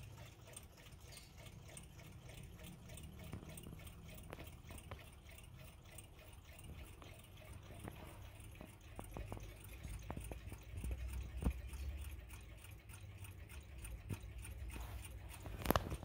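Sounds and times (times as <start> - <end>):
mechanical clocks ticking: 0.0 - 16.0.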